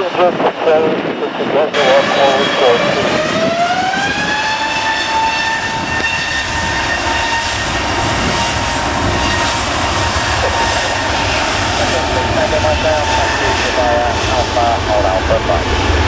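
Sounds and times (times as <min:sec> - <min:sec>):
airliner engines whining: 0:00.0 - 0:16.0.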